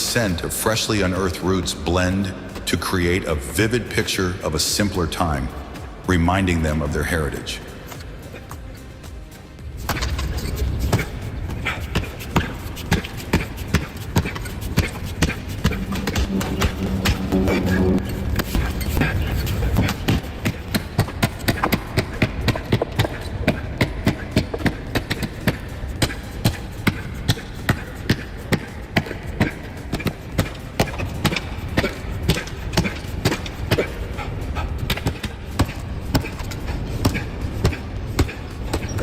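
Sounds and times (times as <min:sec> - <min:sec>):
steady low rumble: 0:07.4 - 0:38.8.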